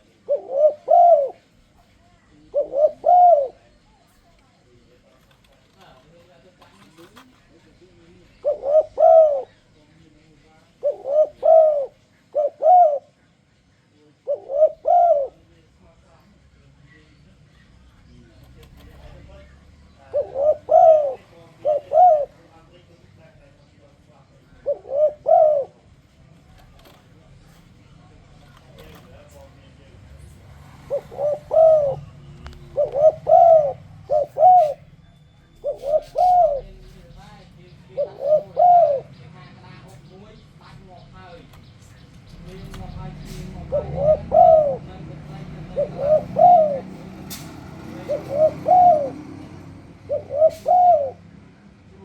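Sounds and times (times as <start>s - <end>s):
dove cooing: 0.0s - 52.0s.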